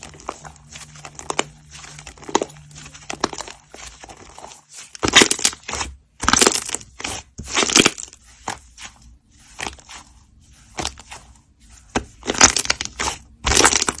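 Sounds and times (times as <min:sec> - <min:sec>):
slime squishing: 0:00.0 - 0:14.0.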